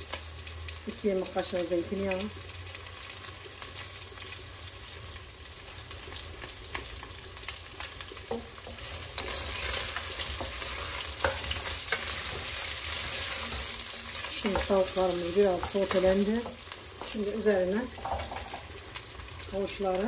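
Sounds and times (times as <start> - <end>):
chicken sizzling in pot: 0.0 - 20.0.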